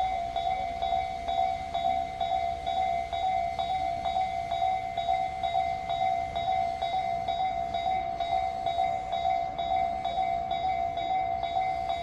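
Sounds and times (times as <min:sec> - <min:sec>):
level crossing bell ringing: 0:00.0 - 0:12.0
train rumbling: 0:00.0 - 0:12.0.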